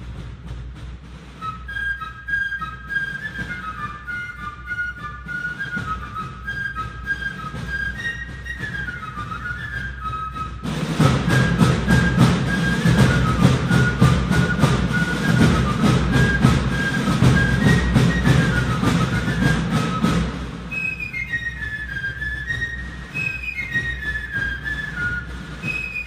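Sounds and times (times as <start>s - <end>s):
fast rhythmic accompaniment: 0.0s - 26.0s.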